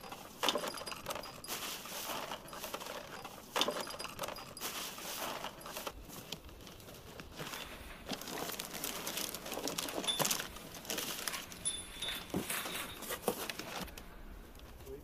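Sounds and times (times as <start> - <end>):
cellophane crinkling: 0.0 - 14.8.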